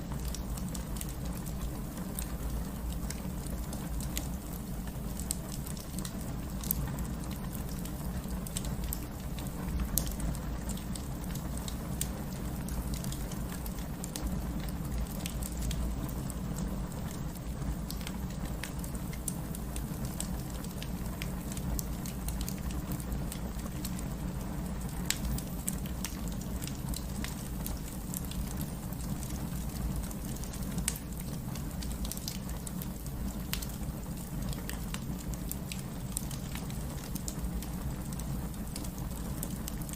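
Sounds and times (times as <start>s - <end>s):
fire crackling and popping: 0.0s - 39.9s
steady rain: 0.0s - 39.9s
fire rumbling: 0.1s - 39.9s.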